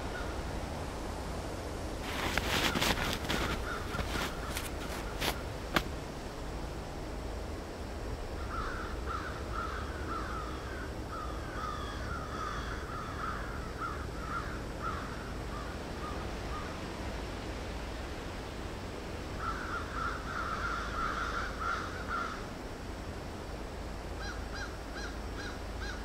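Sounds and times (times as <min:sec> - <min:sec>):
low background hiss: 0:00.0 - 0:26.0.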